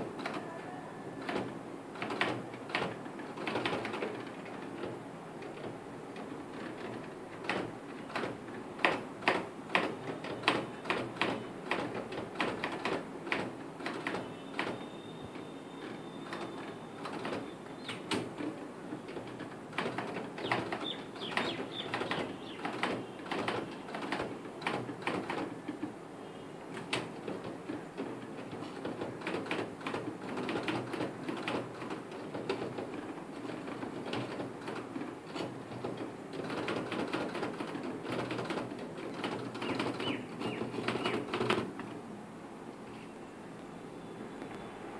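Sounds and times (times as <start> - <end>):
typewriter keys clicking: 1.2 - 14.8, 15.8 - 25.9, 26.7 - 41.9.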